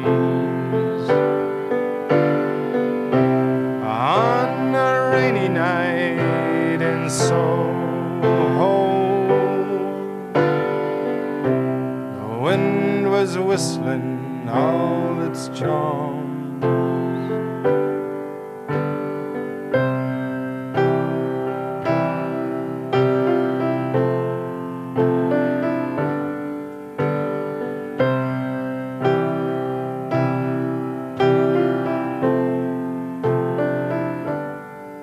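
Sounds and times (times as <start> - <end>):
slow piano ballad chords: 0.0 - 35.0.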